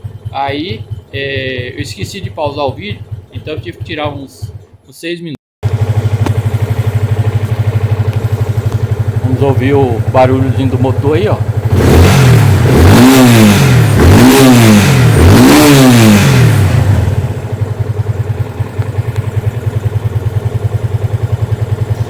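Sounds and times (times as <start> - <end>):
motorcycle engine revving and idling: 0.0 - 5.0, 5.6 - 22.0.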